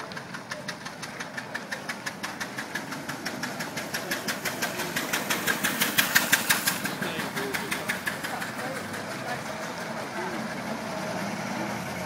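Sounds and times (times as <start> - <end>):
old car engine chugging: 0.0 - 12.0.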